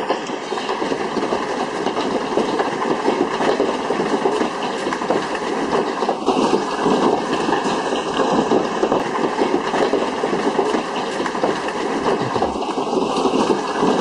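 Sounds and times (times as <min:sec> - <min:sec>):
hailstones pounding down: 0:00.0 - 0:14.0.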